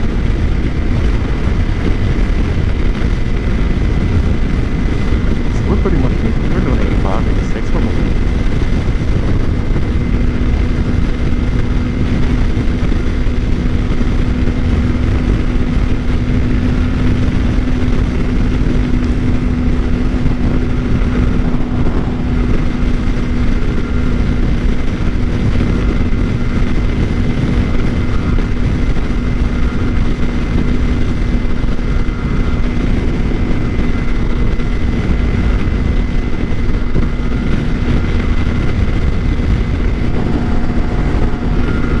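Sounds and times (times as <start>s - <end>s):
motorcycle engine droning: 0.0s - 42.0s
wind rush on microphone: 0.0s - 42.0s.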